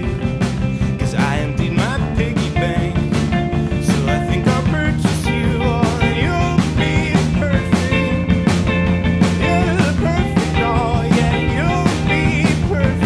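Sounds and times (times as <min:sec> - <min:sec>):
drum kit and cymbal hits: 0:00.0 - 0:13.0
electric guitar lines: 0:00.0 - 0:13.0
rock band playing: 0:00.0 - 0:13.0.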